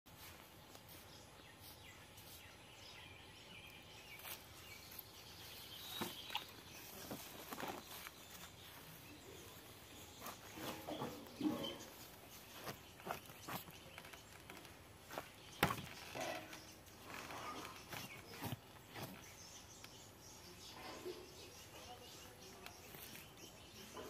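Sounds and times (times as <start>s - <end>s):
quiet outdoor background: 0.1s - 24.0s.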